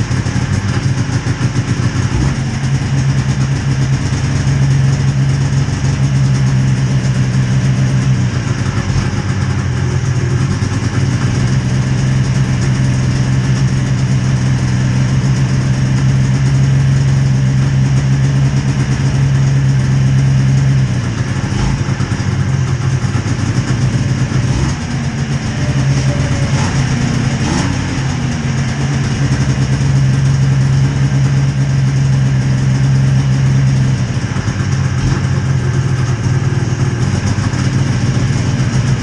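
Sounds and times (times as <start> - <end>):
snowmobile engine idling: 0.0 - 39.0.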